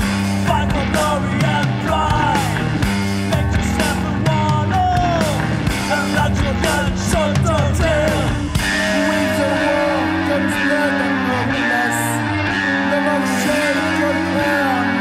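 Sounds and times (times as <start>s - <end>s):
noise pop band playing: 0.0s - 15.0s.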